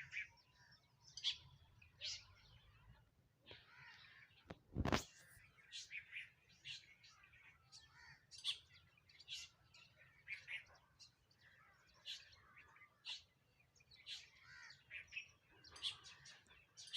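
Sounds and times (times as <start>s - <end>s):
sparrows chirping: 0.0s - 16.9s.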